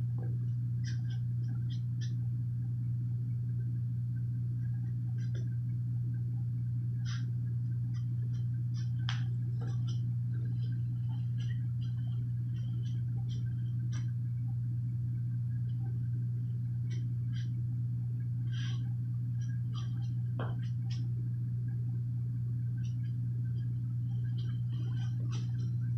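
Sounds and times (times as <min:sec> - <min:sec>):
low machine hum: 0:00.0 - 0:25.9.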